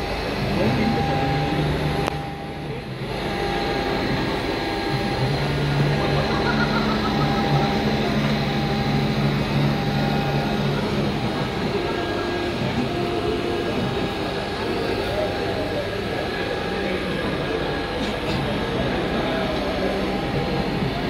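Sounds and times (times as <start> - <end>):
faint machine whine: 0.0 - 21.0
wood router machine hum: 0.0 - 21.0.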